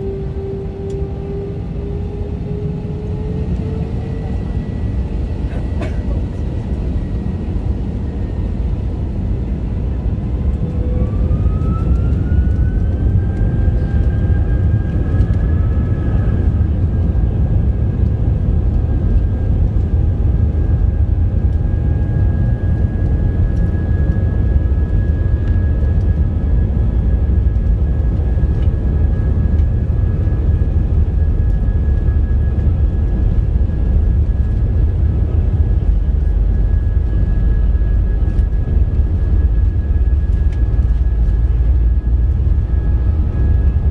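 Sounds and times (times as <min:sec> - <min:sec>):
jet engine rumble: 0:00.0 - 0:43.9
jet engine whine: 0:00.0 - 0:43.9.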